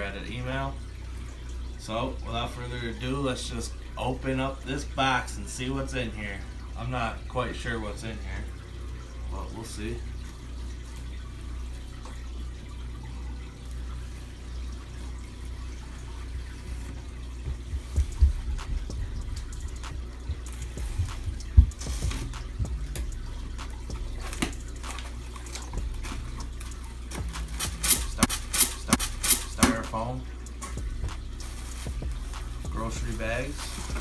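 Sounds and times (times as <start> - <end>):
running water: 0.0 - 34.0
equipment low hum: 0.1 - 34.0.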